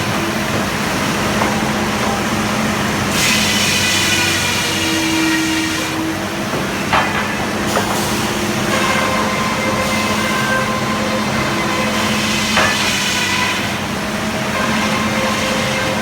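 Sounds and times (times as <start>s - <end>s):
sawmill hum and whine: 0.0s - 16.0s.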